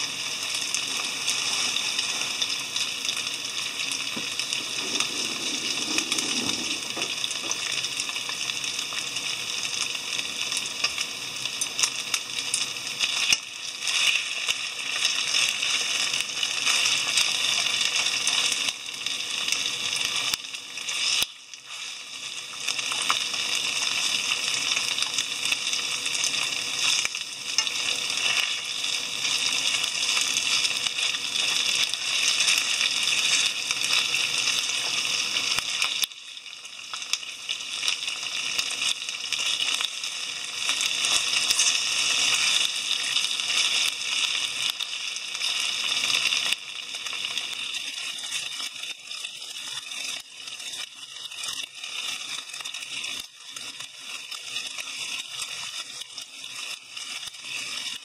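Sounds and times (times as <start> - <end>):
meat sizzling in a frying pan: 0.0 - 58.0
small crackles of frying: 0.0 - 58.0.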